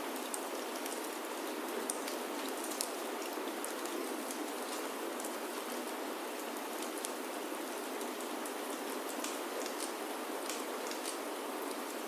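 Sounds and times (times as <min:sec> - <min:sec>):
rain on a wooden roof: 0:00.0 - 0:12.0
wood fire crackling: 0:00.2 - 0:12.0.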